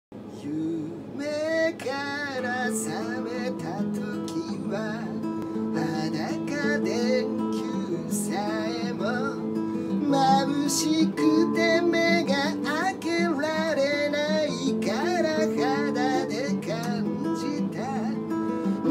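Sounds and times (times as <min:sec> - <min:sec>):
man singing: 0:00.3 - 0:18.9
classical guitar strumming: 0:01.4 - 0:18.9.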